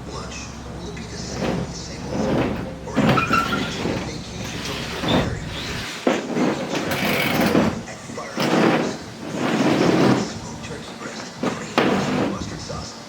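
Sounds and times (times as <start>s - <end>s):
heavy table knocking and scraping: 0.0s - 12.9s.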